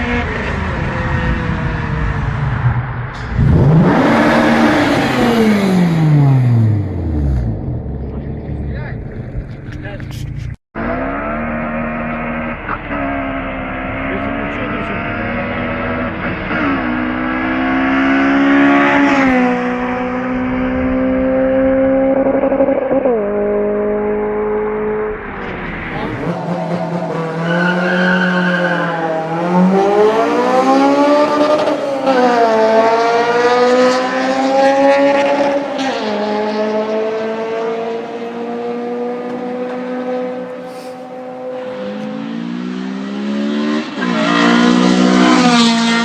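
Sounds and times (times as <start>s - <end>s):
car engine accelerating through gears: 0.0s - 46.0s.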